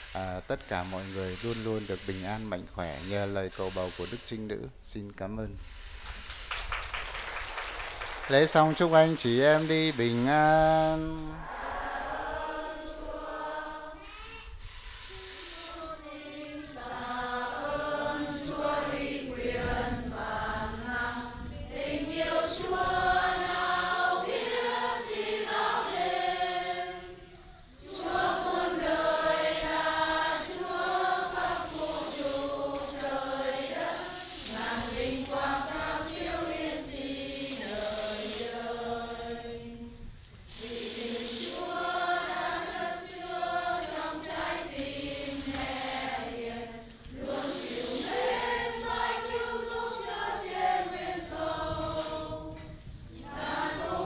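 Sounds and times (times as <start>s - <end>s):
choir singing a hymn: 0.0s - 4.4s, 8.2s - 14.2s, 15.3s - 54.0s.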